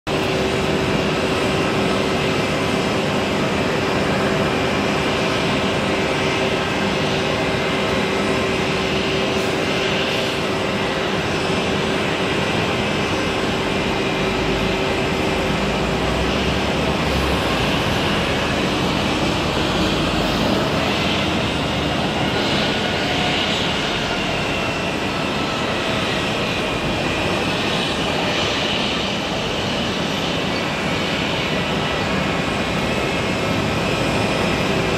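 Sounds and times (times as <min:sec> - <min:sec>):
jet engines rushing and whining: 0:00.0 - 0:34.9.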